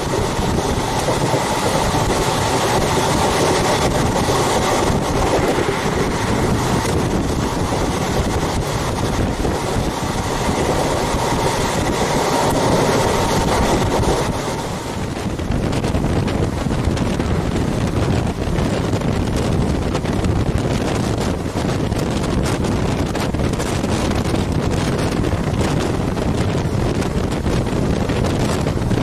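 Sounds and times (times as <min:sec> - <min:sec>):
train carriage and wheel noise: 0:00.0 - 0:29.0
wind rushing over microphone: 0:00.0 - 0:29.0.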